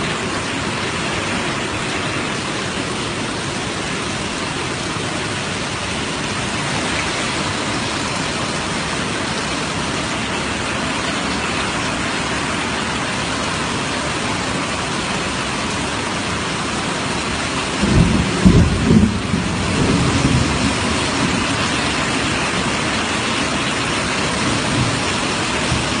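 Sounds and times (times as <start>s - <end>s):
heavy rain hiss: 0.0s - 26.0s.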